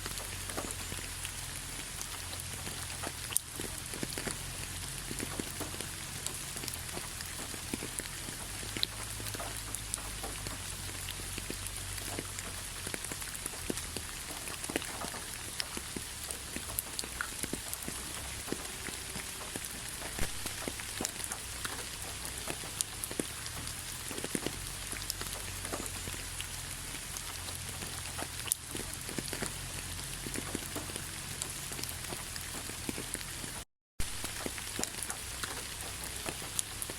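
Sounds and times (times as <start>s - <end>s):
light rain pattering: 0.0s - 36.9s.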